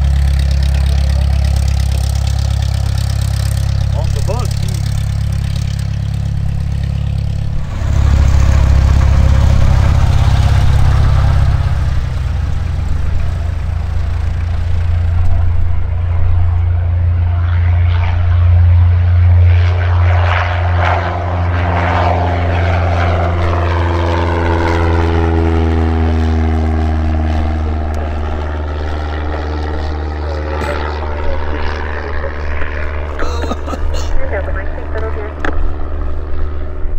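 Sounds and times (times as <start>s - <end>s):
small plane engine and propeller: 0.0s - 36.9s.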